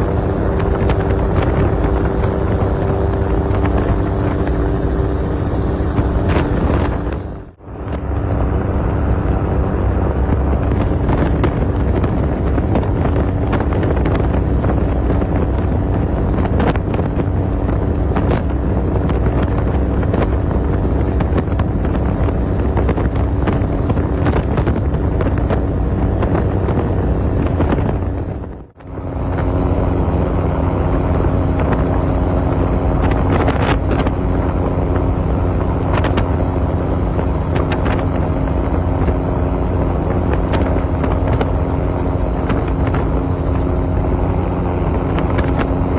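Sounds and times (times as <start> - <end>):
helicopter engine and rotor drone: 0.0 - 45.9.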